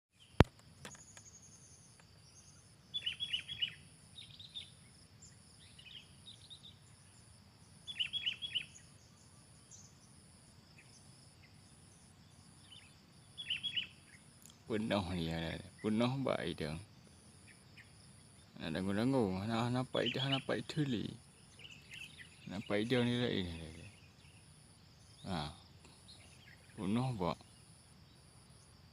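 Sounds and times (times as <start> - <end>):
birds chirping: 0.1 - 28.9
high insect buzz: 0.2 - 28.9.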